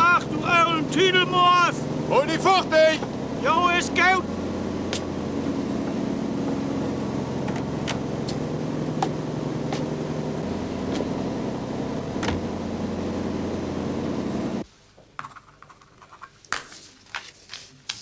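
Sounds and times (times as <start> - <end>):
boat engine humming: 0.0 - 14.6.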